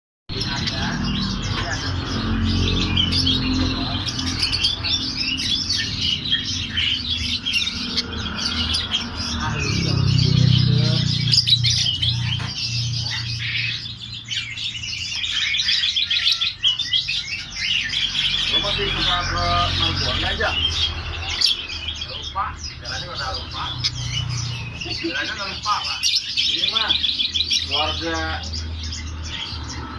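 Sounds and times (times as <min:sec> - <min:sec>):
small birds chirping: 0:00.3 - 0:29.9.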